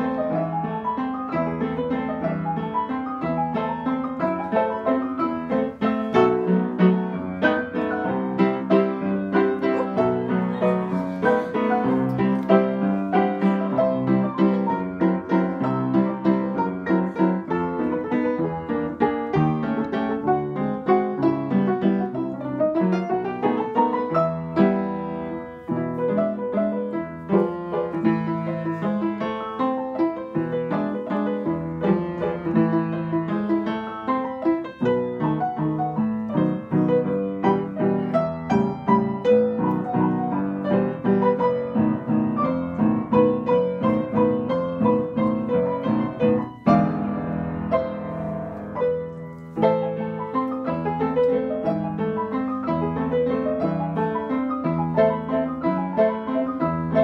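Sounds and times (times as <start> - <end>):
upright piano duet: 0.0 - 57.0.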